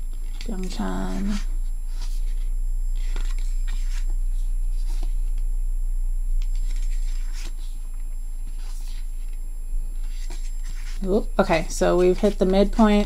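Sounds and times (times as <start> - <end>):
paper pages rustling: 0.0 - 5.4, 6.5 - 9.4, 10.0 - 13.0
faint high whine: 0.0 - 13.0
low hum: 0.0 - 13.0.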